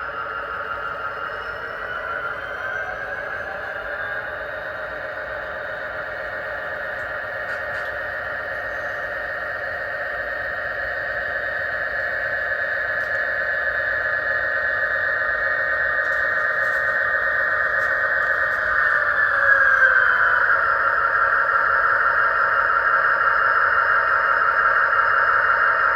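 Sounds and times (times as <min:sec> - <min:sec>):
model train running on track: 0:00.0 - 0:25.9.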